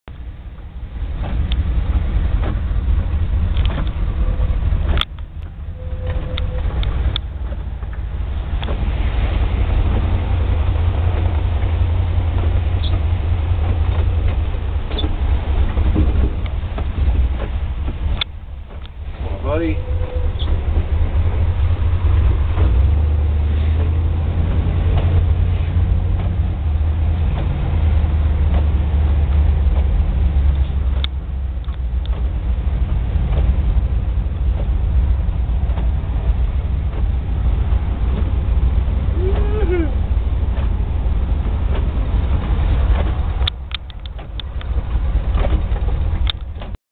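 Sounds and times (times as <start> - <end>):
car engine and road rumble: 0.0 - 46.8.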